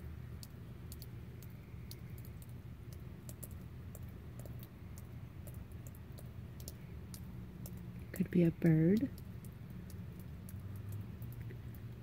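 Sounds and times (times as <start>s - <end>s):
faint high-pitched clicks: 0.4s - 8.2s, 8.9s - 12.0s.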